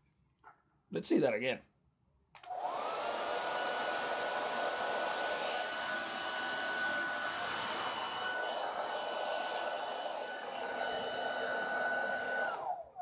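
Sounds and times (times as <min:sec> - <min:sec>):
hair dryer blowing air: 0:02.4 - 0:13.0
motor and fan whine: 0:02.5 - 0:12.9.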